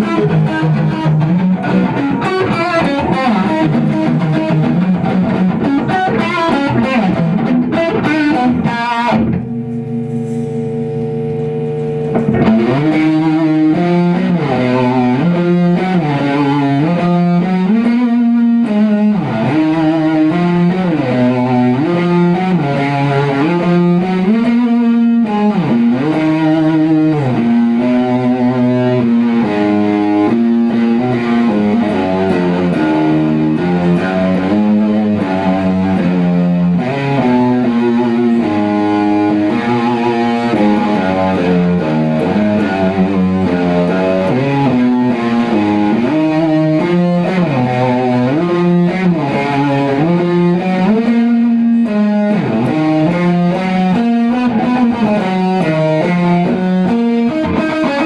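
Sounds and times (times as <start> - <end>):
distorted electric guitar chords: 0.0 - 58.0.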